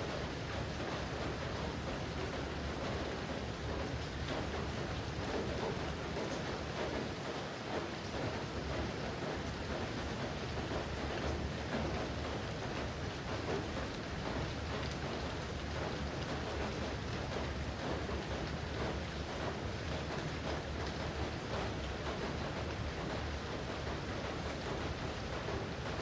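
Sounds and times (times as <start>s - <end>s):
steady rainfall: 0.0s - 26.0s.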